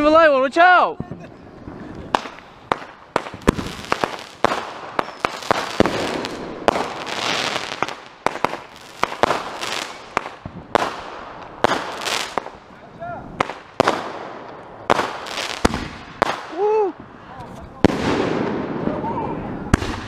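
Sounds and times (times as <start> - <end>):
fireworks hissing and crackling: 1.0 - 18.6
fireworks bangs: 1.0 - 20.0.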